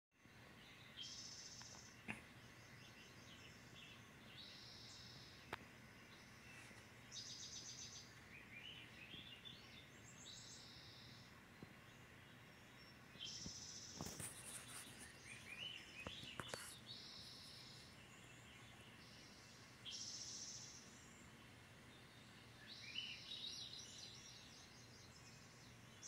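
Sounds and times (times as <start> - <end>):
songbirds chirping through tv speakers: 0.1 - 26.0.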